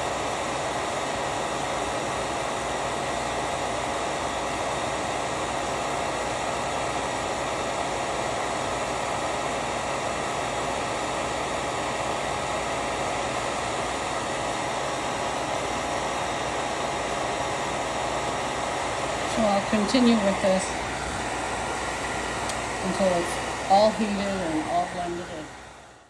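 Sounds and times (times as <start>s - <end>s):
heat gun blowing air: 0.0s - 26.0s.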